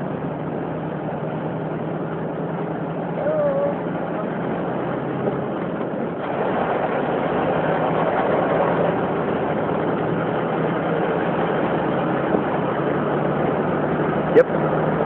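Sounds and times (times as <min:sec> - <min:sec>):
dense rushing noise: 0:00.0 - 0:15.0
engine humming: 0:00.0 - 0:15.0.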